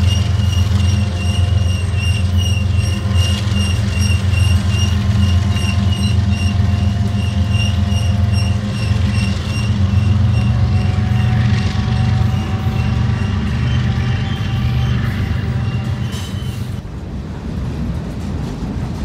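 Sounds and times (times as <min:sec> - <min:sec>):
diesel freight train rumbling: 0:00.0 - 0:19.0.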